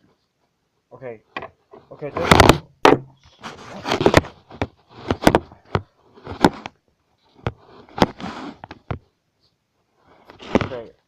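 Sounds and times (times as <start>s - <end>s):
rustling: 1.6s - 11.0s.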